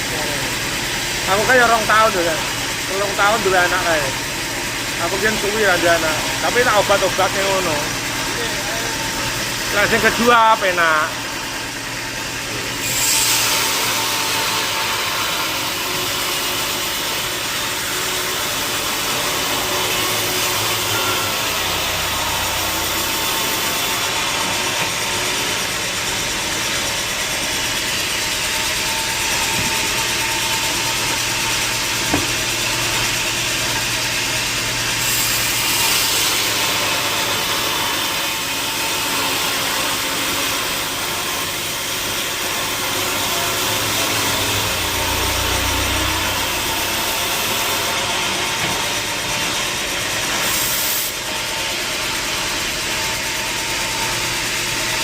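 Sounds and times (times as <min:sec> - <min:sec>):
sawmill machinery hiss and hum: 0:00.0 - 0:55.0.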